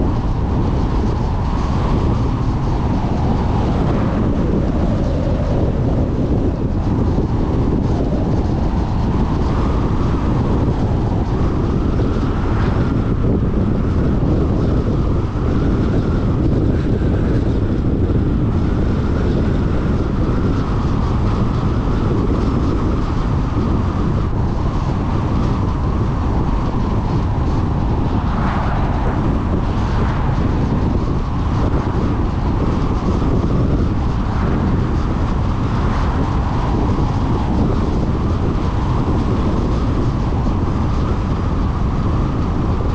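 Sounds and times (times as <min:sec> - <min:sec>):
road and wind noise in car: 0:00.0 - 0:42.9.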